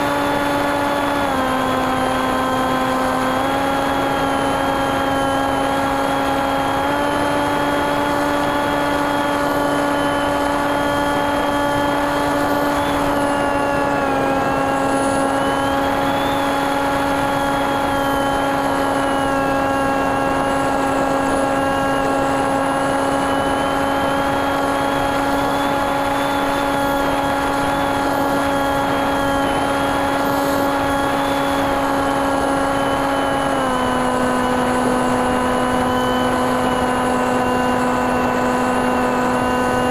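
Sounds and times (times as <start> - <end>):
airflow noise: 0.0 - 39.9
electric motor propeller hum: 0.0 - 39.9.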